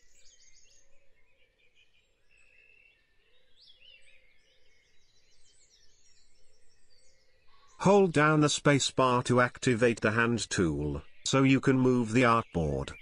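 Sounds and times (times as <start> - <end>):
faint birds chirping and trilling: 0.0 - 13.0.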